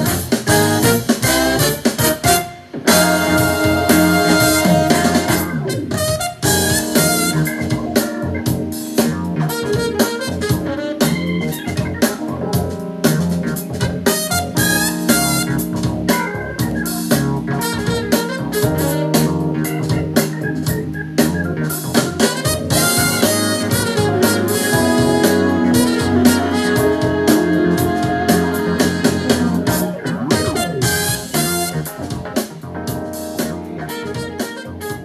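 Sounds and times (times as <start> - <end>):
band music with drums and organ: 0.0 - 35.0.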